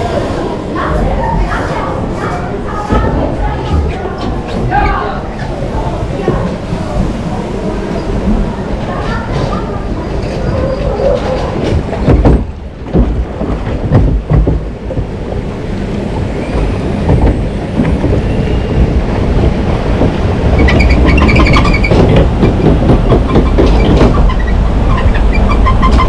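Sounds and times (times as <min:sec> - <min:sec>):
ride machinery rumbling: 0:00.0 - 0:26.0.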